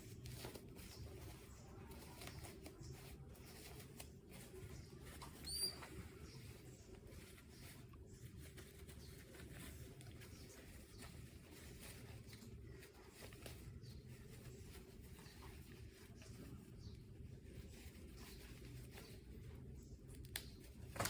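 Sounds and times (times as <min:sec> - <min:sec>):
faint ticks and rustles: 0:00.0 - 0:21.0.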